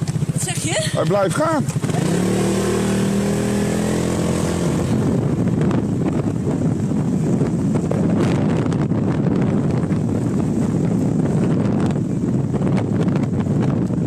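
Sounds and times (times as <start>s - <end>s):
motorbike engine running: 0.0s - 14.0s
wind buffeting on microphone: 0.0s - 14.0s.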